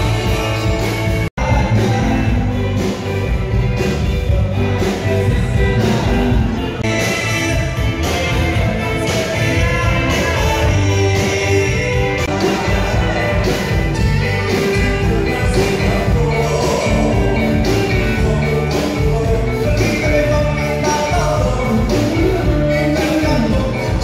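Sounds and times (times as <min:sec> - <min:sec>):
drums: 0:00.0 - 0:24.0
electric guitars: 0:00.0 - 0:24.0
live band playing dance music: 0:00.0 - 0:24.0
person singing: 0:00.0 - 0:24.0.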